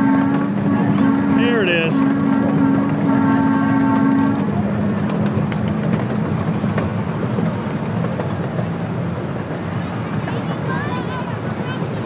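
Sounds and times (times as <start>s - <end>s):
miniature train rumbling on track: 0.0s - 12.0s
wheels clicking on rails: 0.0s - 12.0s.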